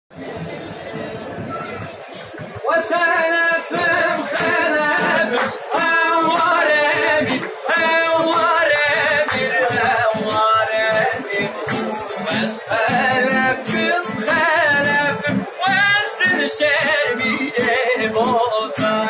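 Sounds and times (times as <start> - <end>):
strummed acoustic guitar: 2.1 - 19.0
man singing: 2.6 - 19.0.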